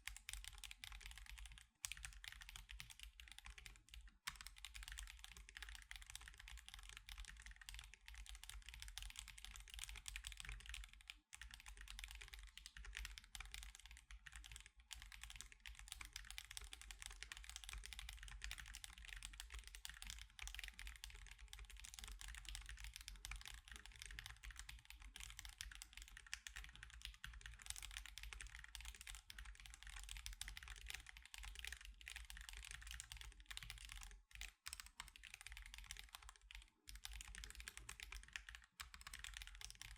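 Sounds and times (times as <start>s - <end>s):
mechanical keyboard typing: 0.1s - 39.9s.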